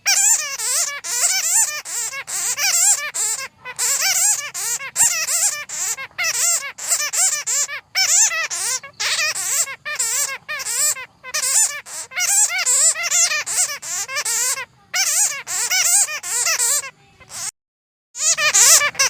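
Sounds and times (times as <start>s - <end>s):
bats squeaking and chattering: 0.0s - 17.5s, 18.2s - 19.0s.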